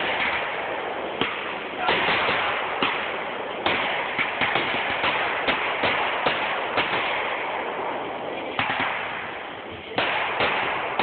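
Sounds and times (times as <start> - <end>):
fireworks bangs: 0.0 - 11.0
steady firework hiss: 0.0 - 11.0.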